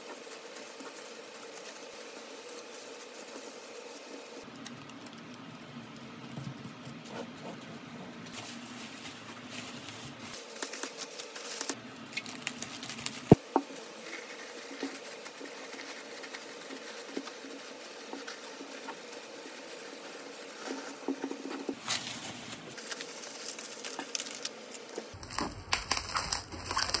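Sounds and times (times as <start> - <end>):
tissue paper and bubble wrap crinkling: 0.0 - 4.5, 8.3 - 27.0.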